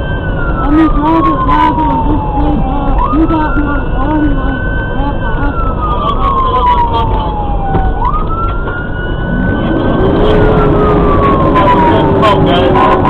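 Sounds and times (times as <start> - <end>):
fire engine siren wailing: 0.0 - 13.0
truck engine and road noise: 0.0 - 13.0.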